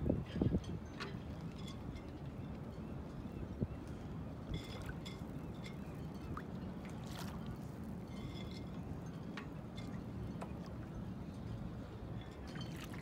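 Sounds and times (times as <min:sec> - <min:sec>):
choppy water: 0:00.0 - 0:13.0.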